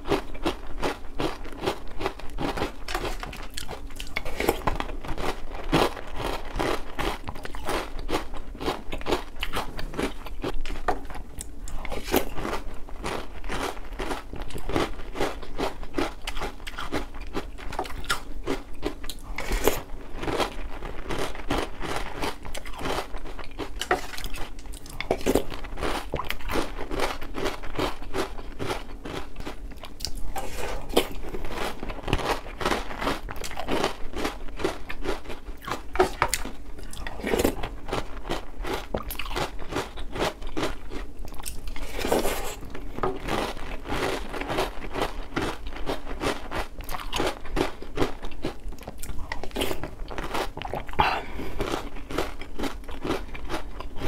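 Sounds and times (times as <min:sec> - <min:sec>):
cereal crunching while chewed: 0:00.0 - 0:54.0.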